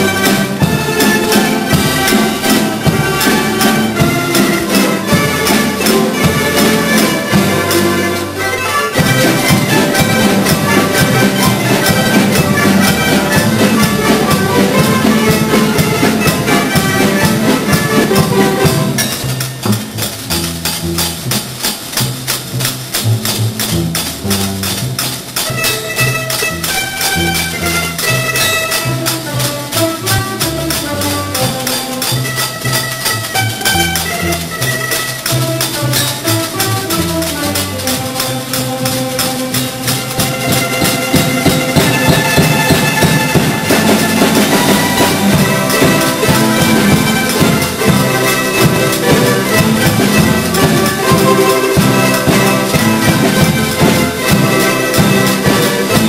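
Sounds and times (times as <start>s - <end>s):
plectrum string ensemble playing: 0.0s - 56.0s.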